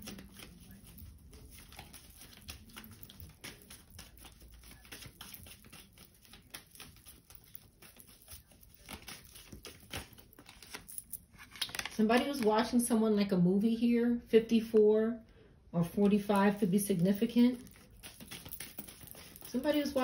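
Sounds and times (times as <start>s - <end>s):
cards shuffling: 0.0s - 12.6s, 16.0s - 20.0s.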